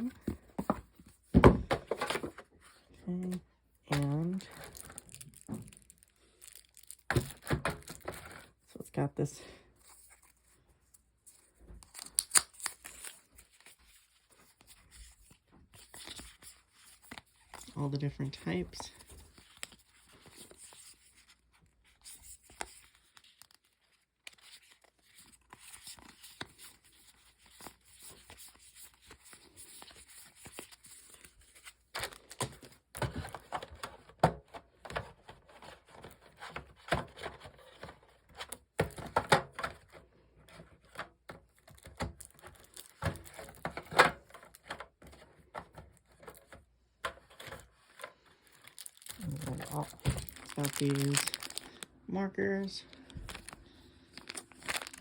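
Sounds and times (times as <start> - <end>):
plastic and paper packaging crinkling: 0.0 - 8.9, 9.8 - 55.0.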